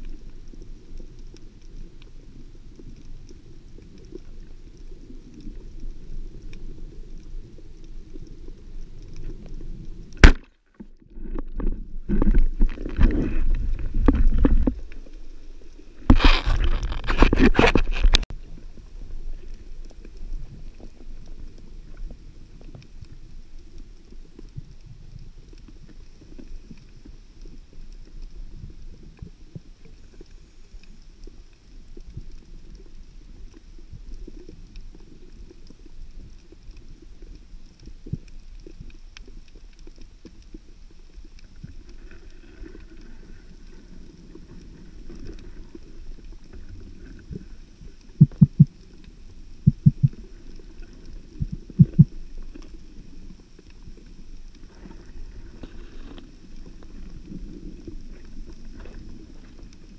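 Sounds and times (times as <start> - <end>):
muffled underwater water rumble: 0.0 - 59.9.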